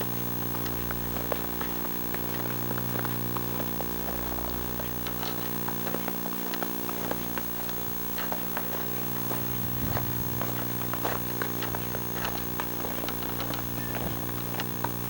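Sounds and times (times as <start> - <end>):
loud electrical buzz: 0.0 - 15.0.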